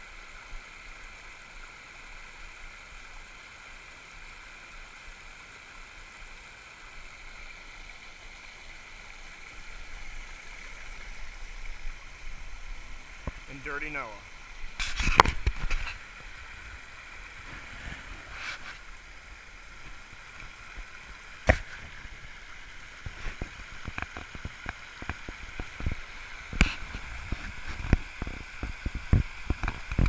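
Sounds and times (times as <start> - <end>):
small waterfall rushing: 0.0 - 30.0.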